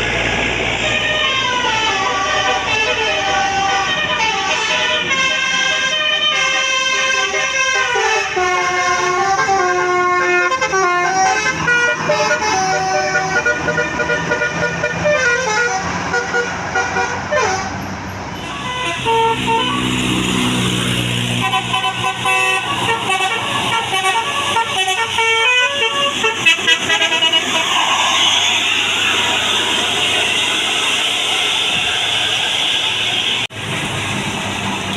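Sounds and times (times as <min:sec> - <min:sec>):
melodic bus horn: 0:00.0 - 0:30.9.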